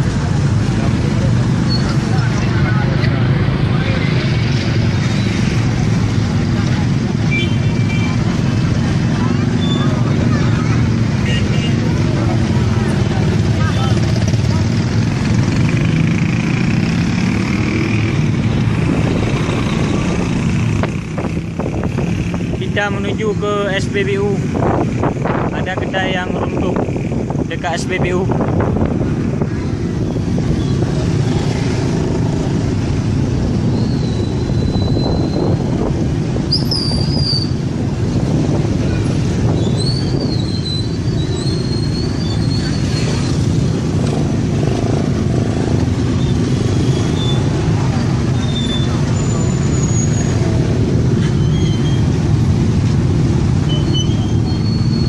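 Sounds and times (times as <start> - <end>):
vehicle running and road noise: 0.0 - 55.0.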